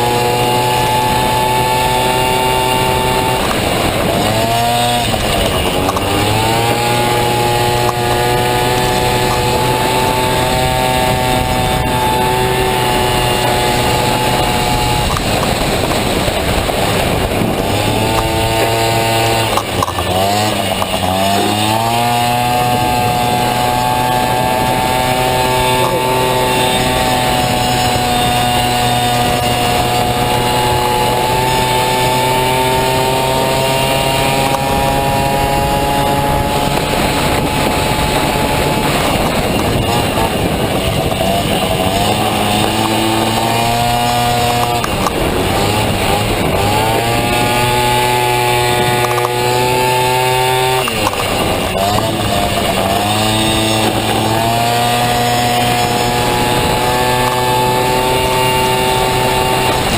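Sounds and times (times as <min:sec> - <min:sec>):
scooter engine at high revs: 0:00.0 - 0:59.9.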